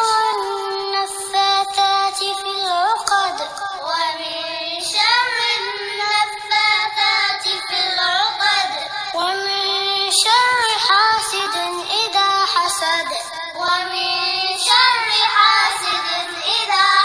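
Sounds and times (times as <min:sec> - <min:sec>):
person chanting recitation: 0:00.0 - 0:17.0.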